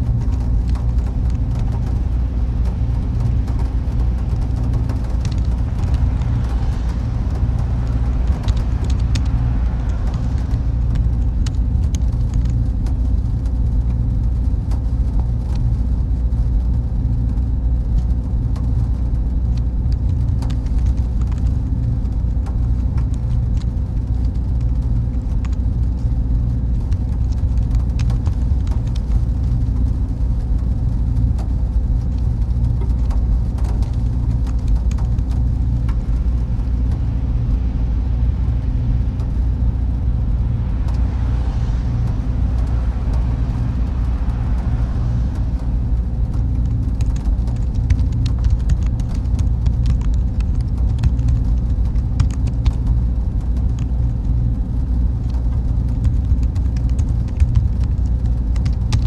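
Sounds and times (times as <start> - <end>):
cooling fans rumbling and humming: 0.0 - 59.0.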